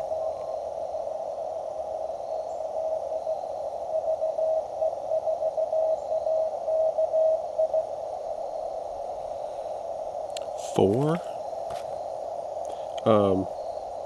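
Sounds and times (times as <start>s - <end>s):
radio receiver hiss: 0.0s - 14.0s.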